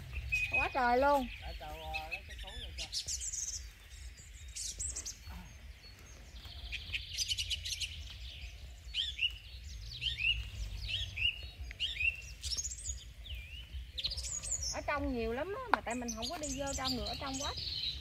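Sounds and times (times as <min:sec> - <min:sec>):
small birds singing: 0:00.0 - 0:18.0.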